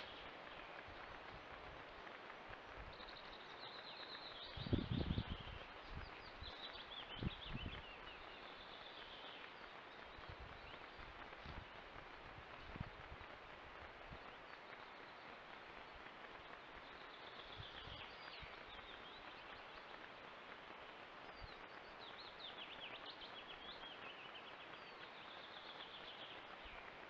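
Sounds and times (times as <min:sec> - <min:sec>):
microphone hiss: 0:00.0 - 0:27.0
songbird chirping: 0:00.0 - 0:27.0.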